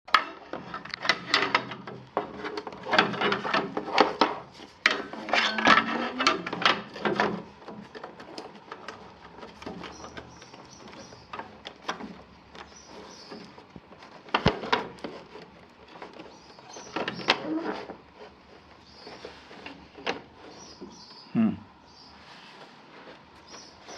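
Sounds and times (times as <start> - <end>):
hard parts clicking and rattling: 0.1 - 21.0.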